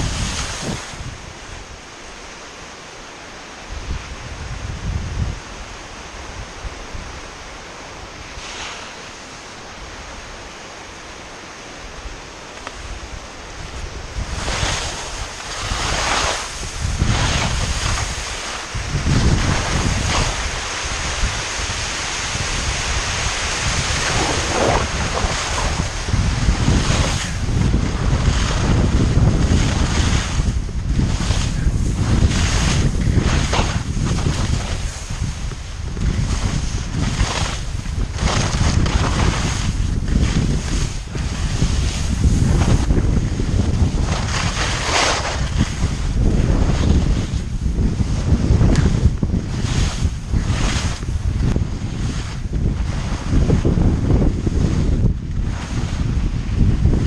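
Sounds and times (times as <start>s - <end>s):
skis scraping on snow: 0.0s - 1.5s, 7.8s - 10.7s, 12.4s - 56.8s
wind buffeting microphone: 0.0s - 57.0s.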